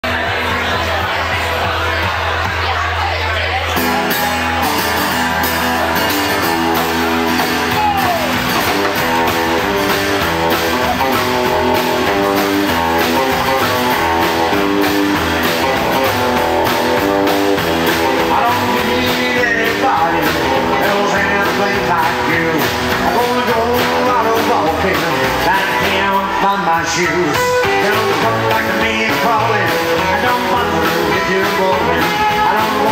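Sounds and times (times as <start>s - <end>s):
drum kit steady beat: 0.0s - 32.9s
strummed acoustic guitar: 0.0s - 32.9s
upright double bass: 0.0s - 32.9s
electric guitar: 3.8s - 32.9s.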